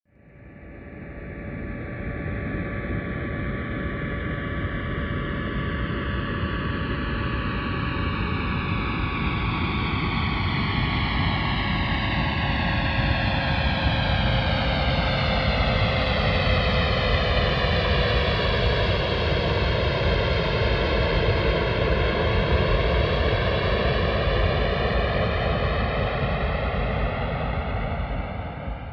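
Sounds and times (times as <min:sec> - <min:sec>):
jet aircraft flying overhead: 0:01.3 - 0:28.9.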